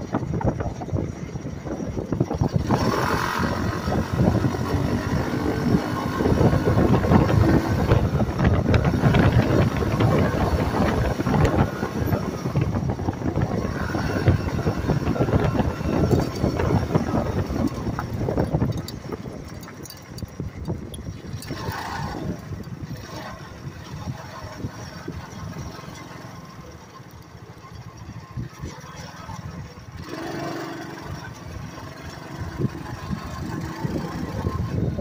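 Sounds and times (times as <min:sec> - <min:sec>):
wind buffeting microphone: 0:00.0 - 0:35.0
small gas engine running: 0:01.4 - 0:20.0, 0:20.6 - 0:27.8, 0:28.4 - 0:35.0.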